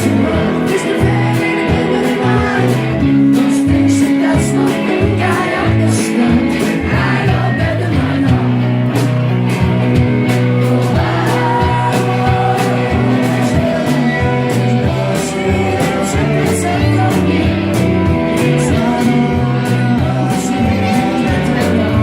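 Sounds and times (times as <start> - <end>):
man singing: 0.0 - 8.8, 10.6 - 22.0
drum beat: 0.0 - 22.0
guitar: 0.0 - 22.0.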